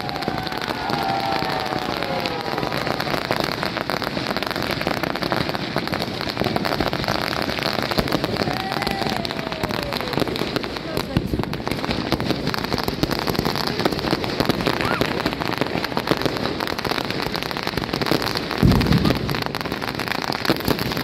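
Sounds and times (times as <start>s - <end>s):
firecrackers crackling: 0.0s - 21.0s.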